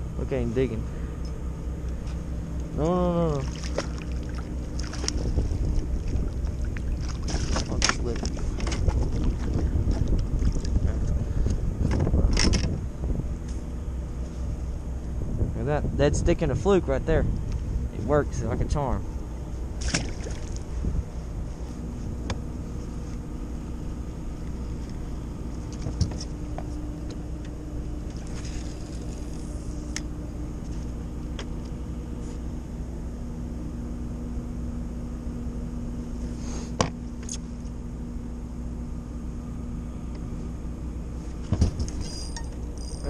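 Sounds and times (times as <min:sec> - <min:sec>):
constant hum: 0:00.0 - 0:43.0
low mechanical rumble: 0:00.0 - 0:43.0.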